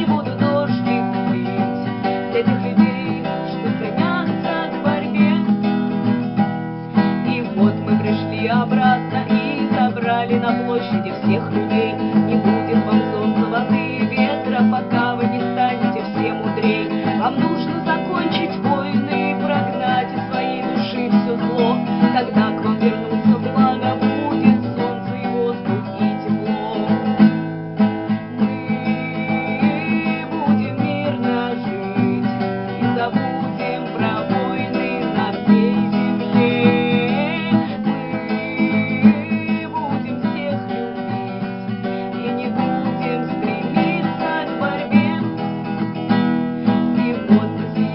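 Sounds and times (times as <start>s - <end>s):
acoustic guitar music: 0.0s - 47.9s.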